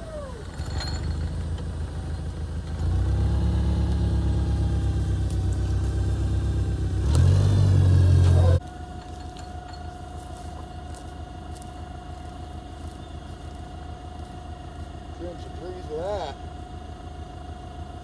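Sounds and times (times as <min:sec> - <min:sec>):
forklift engine running: 0:00.0 - 0:18.0.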